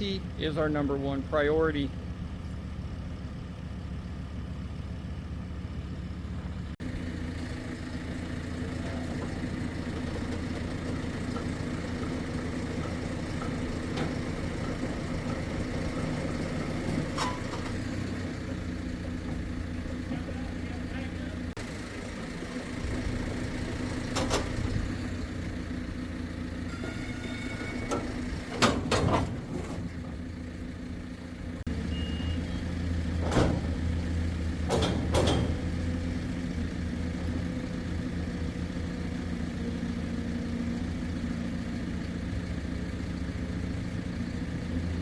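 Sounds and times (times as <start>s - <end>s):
heavy engine idling: 0.0s - 45.0s.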